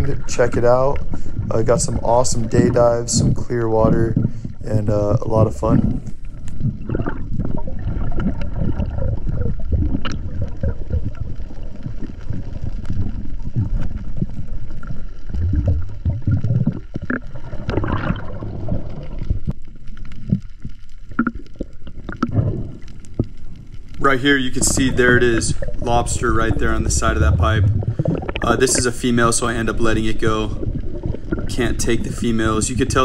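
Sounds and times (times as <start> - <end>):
muffled underwater rumble: 0.0 - 33.0.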